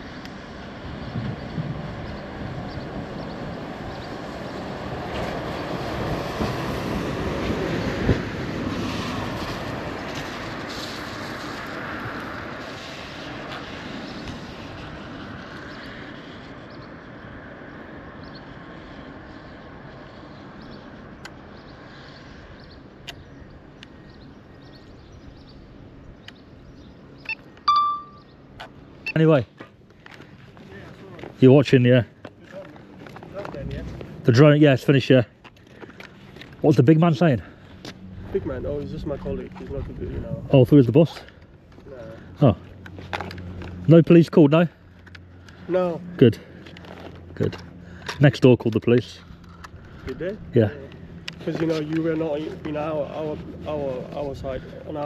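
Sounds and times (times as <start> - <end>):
vehicle passing by: 0.0 - 23.0, 30.4 - 55.0.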